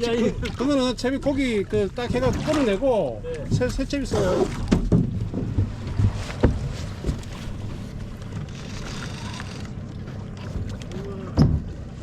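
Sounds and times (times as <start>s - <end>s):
boat engine rumble: 0.0s - 12.0s
water wash: 0.0s - 12.0s.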